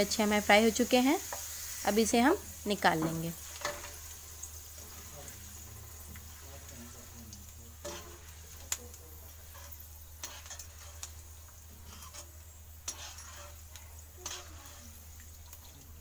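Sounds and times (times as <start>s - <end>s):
oil sizzling faintly: 0.0s - 16.0s
skimmer clinking and scraping wok: 0.0s - 16.0s.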